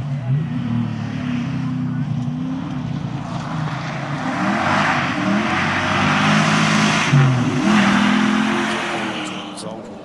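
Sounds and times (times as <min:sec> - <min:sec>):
rally car engine running hard: 0:00.0 - 0:10.0.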